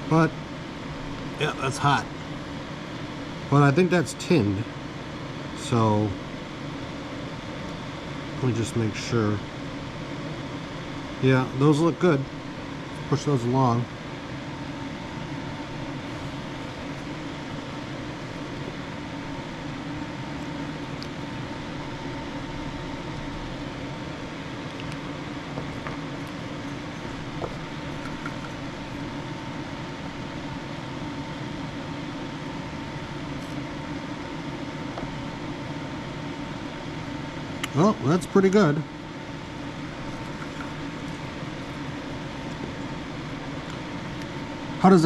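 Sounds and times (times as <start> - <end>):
fan humming and rushing: 0.0 - 45.0.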